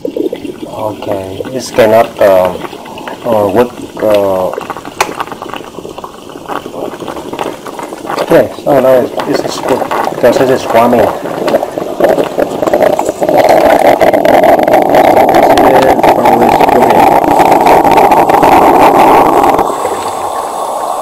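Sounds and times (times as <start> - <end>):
coffee maker steam rushing: 0.0 - 21.0.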